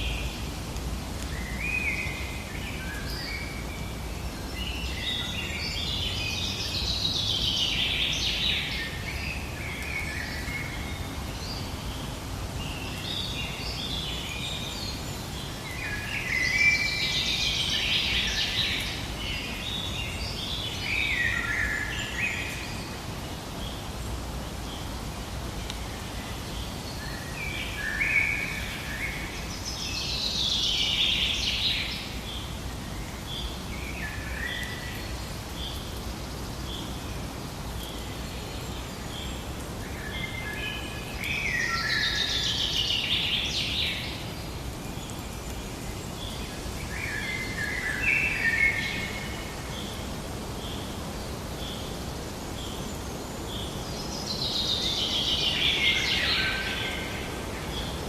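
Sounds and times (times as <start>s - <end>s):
steady background hiss: 0.0s - 58.0s
birds singing: 1.2s - 23.9s, 25.6s - 58.0s.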